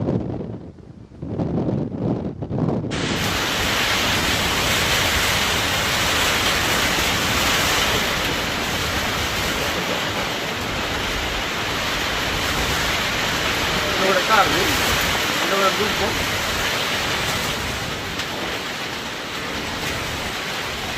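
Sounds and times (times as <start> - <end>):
low wind-like rumble: 0.0 - 20.9
rushing floodwater: 2.9 - 20.9.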